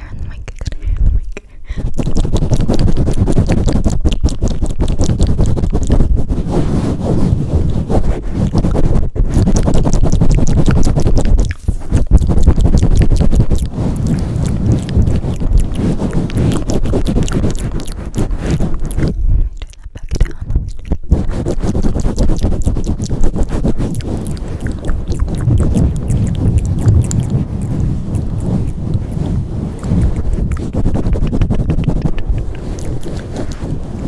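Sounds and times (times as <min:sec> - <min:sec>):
hands rubbing over microphone: 0:01.8 - 0:19.2, 0:21.0 - 0:34.0.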